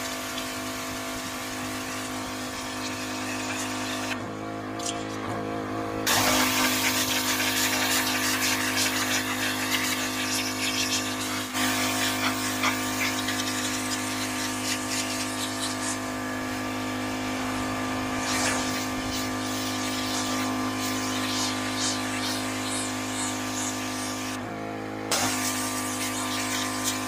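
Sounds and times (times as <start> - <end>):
pressure washer spraying: 0.0 - 4.2, 6.1 - 24.4, 25.1 - 27.0.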